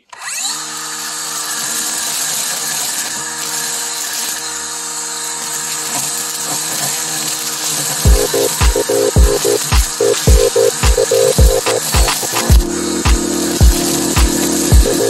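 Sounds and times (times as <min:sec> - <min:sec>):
string trimmer motor whining: 0:00.0 - 0:15.0.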